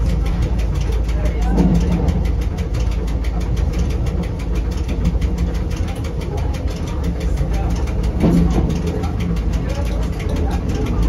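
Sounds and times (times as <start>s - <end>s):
fast even ticking: 0.0s - 11.0s
train rumbling: 0.0s - 11.0s.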